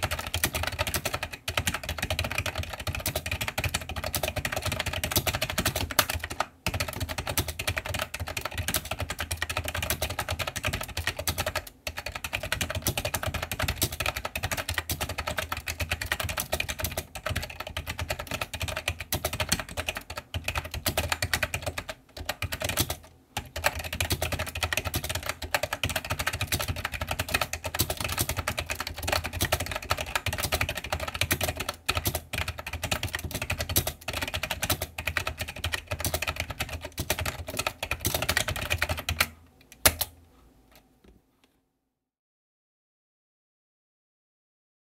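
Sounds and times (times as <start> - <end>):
fast keyboard typing: 0.0 - 40.1.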